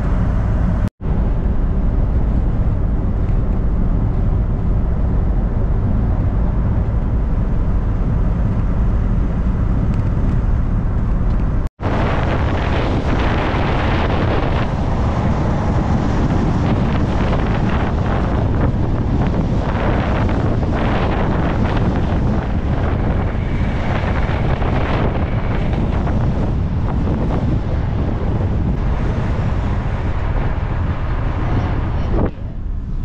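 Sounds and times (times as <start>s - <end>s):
road and engine rumble: 0.0s - 33.0s
wind buffeting microphone: 0.0s - 33.0s.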